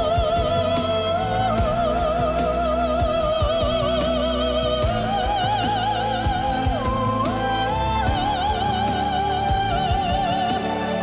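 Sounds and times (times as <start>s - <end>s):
pop music with vibrato melody: 0.0s - 11.0s.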